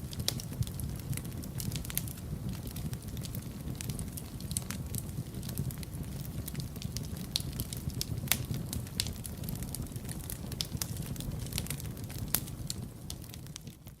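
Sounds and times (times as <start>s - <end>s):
low rumble of flames: 0.0s - 14.0s
sharp pops from fire: 0.0s - 14.0s
wood fire crackling: 0.0s - 14.0s.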